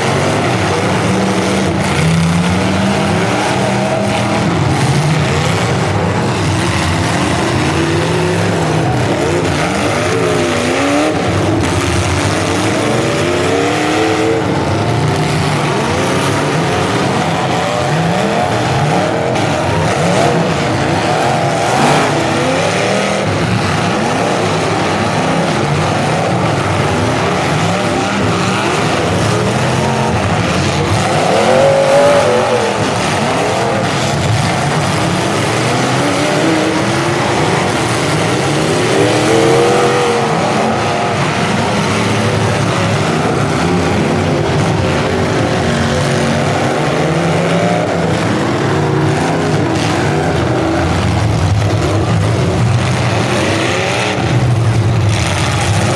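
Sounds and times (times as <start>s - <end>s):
car engines revving together: 0.0s - 55.9s.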